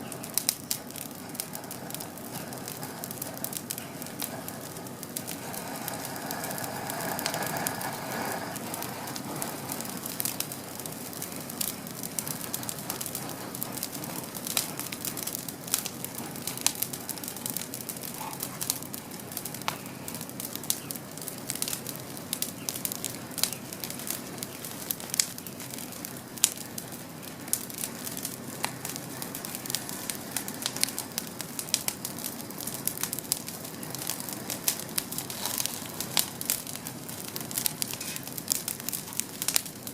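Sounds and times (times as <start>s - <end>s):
campfire crackling and snapping: 0.0s - 39.9s.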